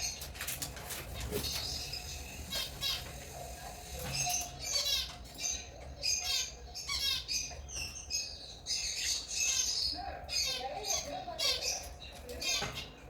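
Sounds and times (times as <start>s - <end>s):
lovebirds chirping and squawking: 0.0s - 13.0s.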